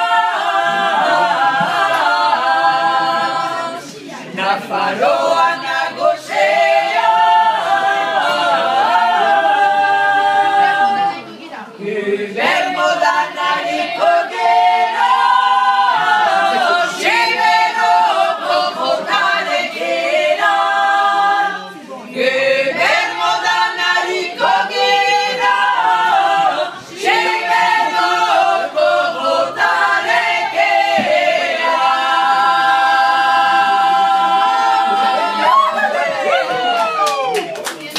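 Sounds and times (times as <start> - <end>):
women singing a cappella: 0.0 - 36.0.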